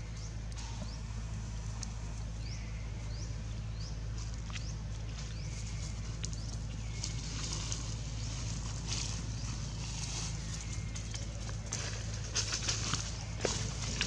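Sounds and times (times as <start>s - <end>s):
low hum: 0.0s - 14.0s
dry leaves crackling: 0.6s - 14.0s.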